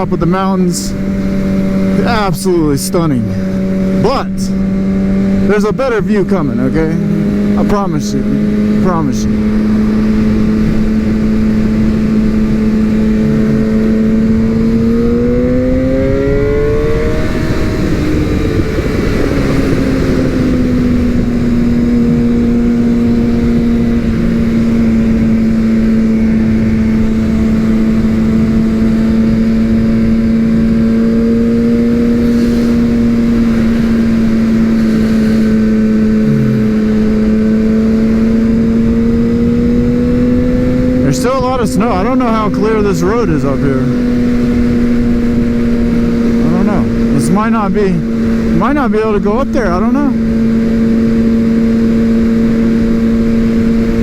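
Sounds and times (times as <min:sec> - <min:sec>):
wind rushing: 0:00.0 - 0:52.4
sport bike engine pulling: 0:00.0 - 0:54.0.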